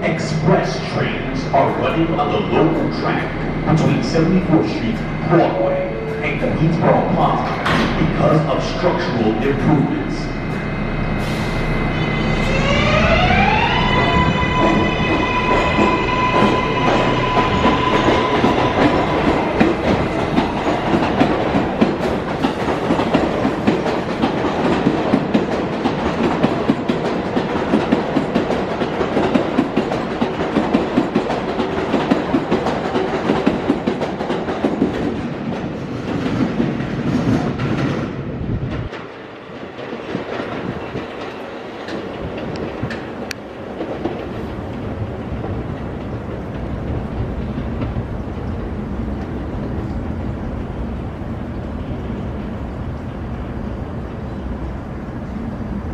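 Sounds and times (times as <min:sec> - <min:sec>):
subway train wheels clattering: 0:00.0 - 0:55.9
train rumble: 0:00.0 - 0:55.9.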